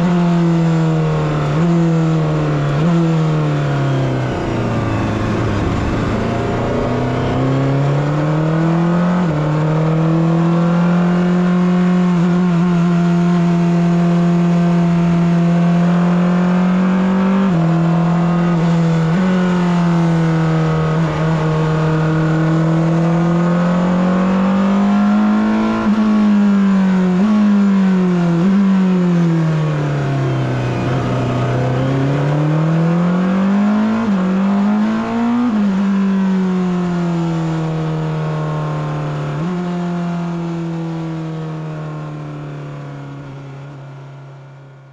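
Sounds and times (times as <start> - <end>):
race car engine revving: 0.0 - 41.5.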